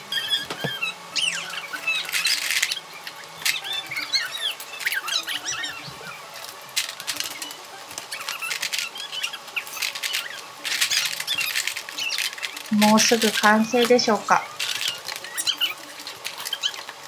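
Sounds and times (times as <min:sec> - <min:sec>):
high squeaky sounds: 0:00.0 - 0:16.9
plastic parts clattering: 0:00.2 - 0:17.0.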